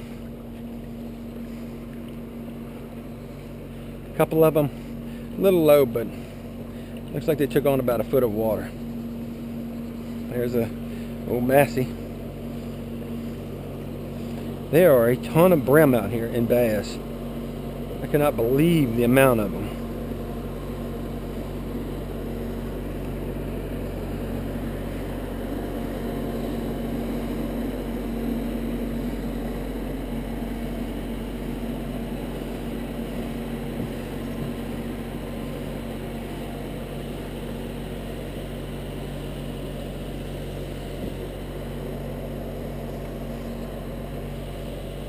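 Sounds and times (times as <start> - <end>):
small boat motor humming: 0.0 - 45.0.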